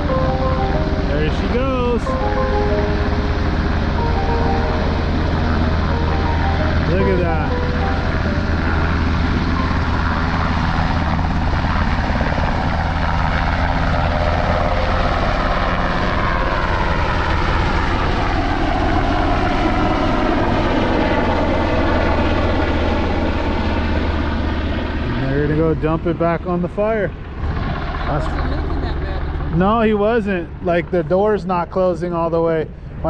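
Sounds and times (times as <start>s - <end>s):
helicopter rotor and turbine: 0.0s - 33.0s.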